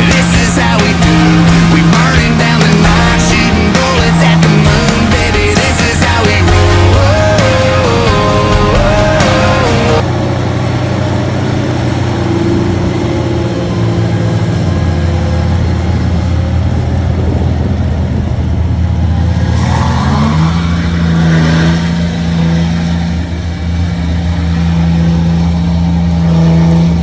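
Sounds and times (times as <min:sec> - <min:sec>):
rush of noise: 0:00.0 - 0:26.3
truck engine revving under load: 0:00.0 - 0:27.0.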